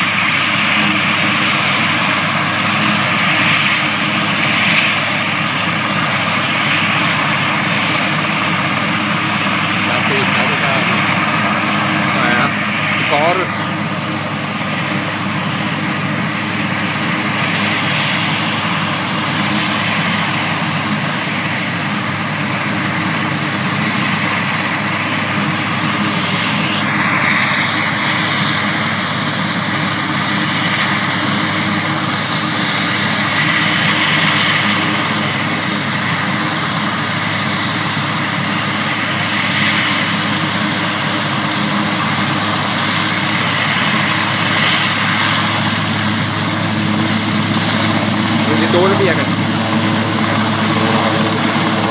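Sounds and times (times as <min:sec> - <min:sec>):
helicopter engines and rotor: 0:00.0 - 0:51.9.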